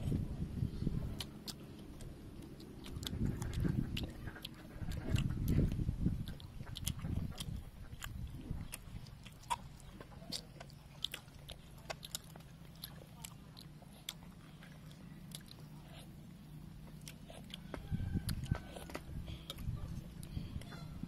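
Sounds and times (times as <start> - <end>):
chewing and biting meat: 1.0 - 21.0.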